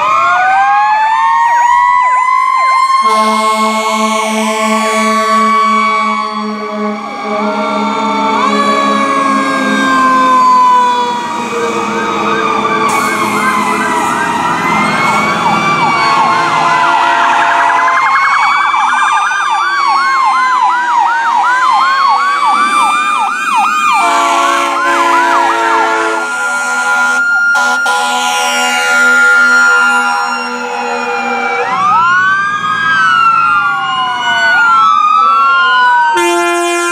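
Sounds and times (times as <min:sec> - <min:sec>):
wailing siren: 0:00.0 - 0:36.9
yelping siren: 0:00.0 - 0:36.9.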